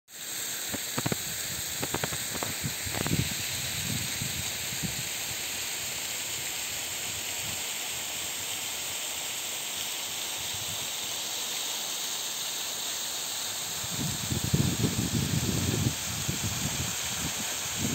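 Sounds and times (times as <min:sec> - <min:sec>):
waterfall rushing hiss: 0:00.1 - 0:17.9.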